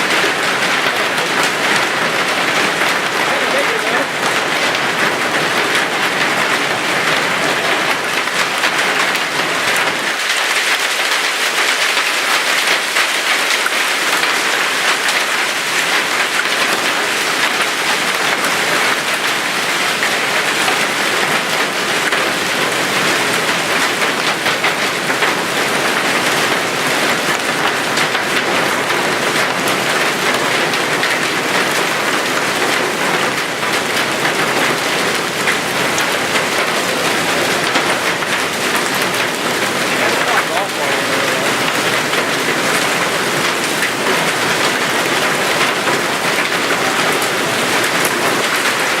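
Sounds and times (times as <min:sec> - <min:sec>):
hail pelting down: 0:00.0 - 0:49.0
heavy rain: 0:00.0 - 0:49.0.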